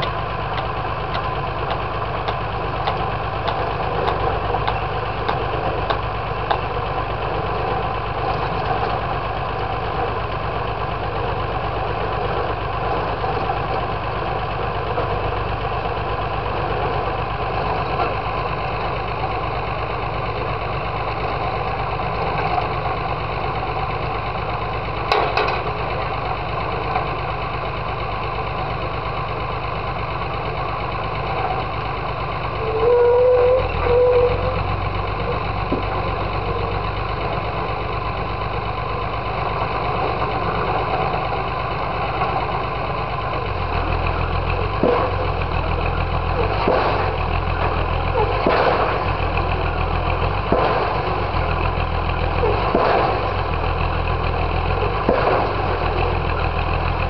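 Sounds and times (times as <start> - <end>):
pile driver engine running: 0.0 - 57.0.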